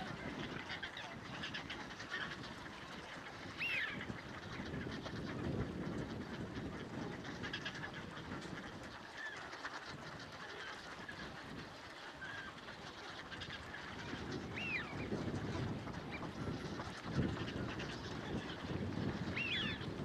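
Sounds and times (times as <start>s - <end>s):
waterbird calls: 0.0s - 20.0s.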